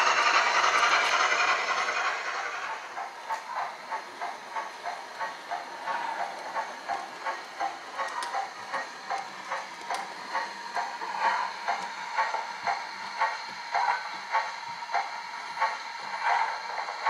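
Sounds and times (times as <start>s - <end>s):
steam locomotive chuffs from speaker: 0.0s - 17.0s.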